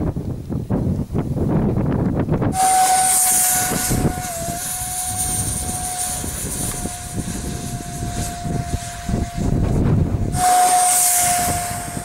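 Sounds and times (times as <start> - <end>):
model jet engine whine: 1.2 - 12.0
rushing hiss: 2.2 - 12.0.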